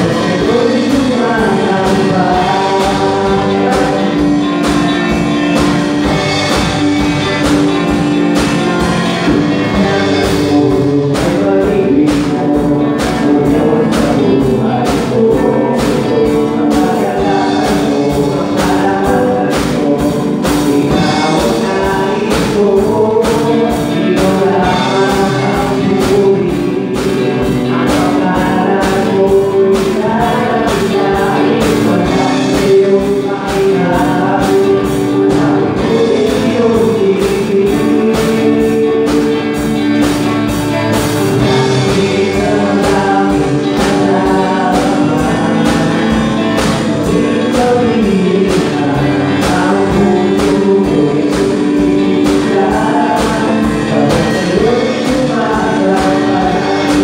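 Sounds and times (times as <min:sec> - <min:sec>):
drum kit beat: 0:00.0 - 0:57.0
people singing: 0:00.0 - 0:57.0.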